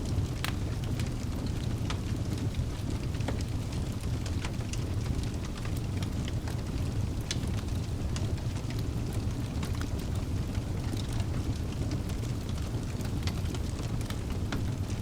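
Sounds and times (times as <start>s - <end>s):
burning logs crackling and popping: 0.0s - 15.0s
fire flames rumbling: 0.0s - 15.0s.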